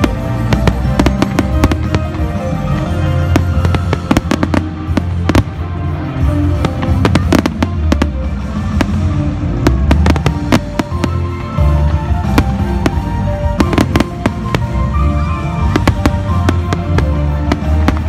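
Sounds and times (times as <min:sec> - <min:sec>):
fireworks cracking and banging: 0:00.0 - 0:18.0
music playing: 0:00.0 - 0:18.0.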